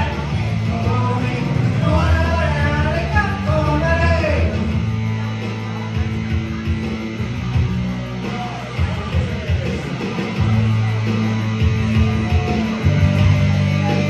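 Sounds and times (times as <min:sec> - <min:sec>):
bass notes: 0:00.0 - 0:14.0
electric guitar: 0:00.0 - 0:14.0.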